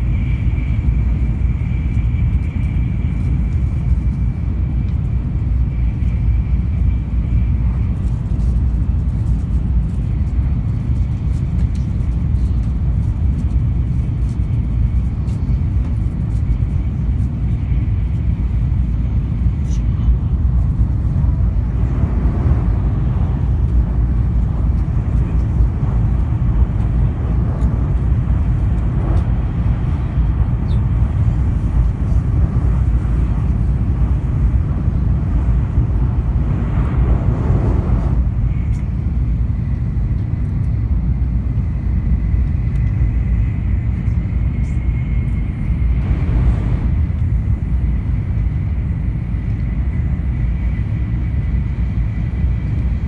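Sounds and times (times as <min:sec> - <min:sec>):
train low rumble: 0:00.0 - 0:53.0.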